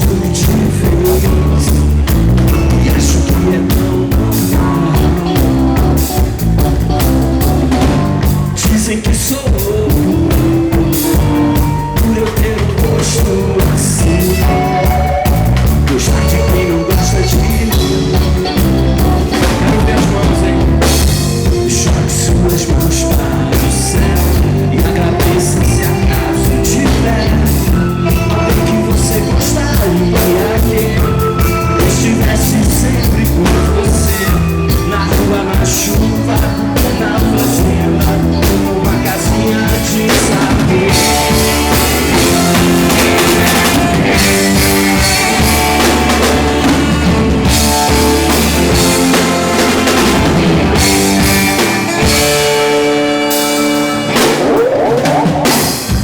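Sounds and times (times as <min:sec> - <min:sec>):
bass guitar: 0:00.0 - 0:56.0
drum kit beat: 0:00.0 - 0:56.0
live rock band playing: 0:00.0 - 0:56.0.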